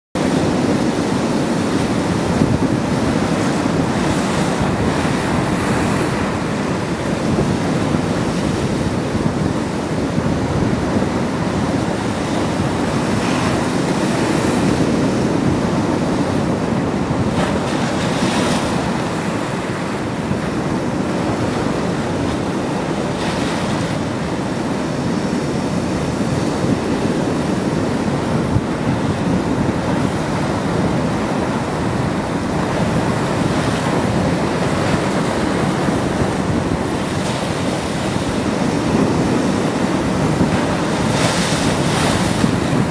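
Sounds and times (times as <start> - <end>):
surf washing against shore: 0.2 - 42.9
wind buffeting microphone: 0.2 - 42.9.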